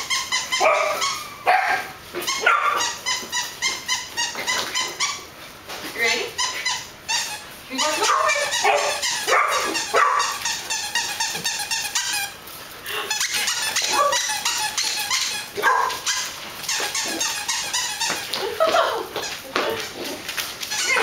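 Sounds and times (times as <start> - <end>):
puppies barking and yipping: 0.0 - 5.6, 6.3 - 21.0.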